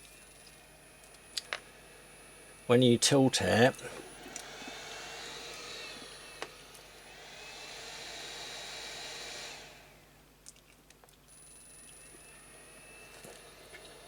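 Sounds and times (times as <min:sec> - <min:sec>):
hot-air gun fan blowing: 0:00.0 - 0:10.2, 0:11.9 - 0:14.0.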